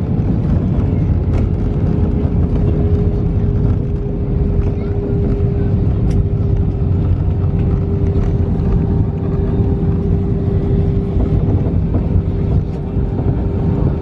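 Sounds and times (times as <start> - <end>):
aircraft cabin engine rumble: 0.0 - 14.0
steady hum: 0.0 - 14.0.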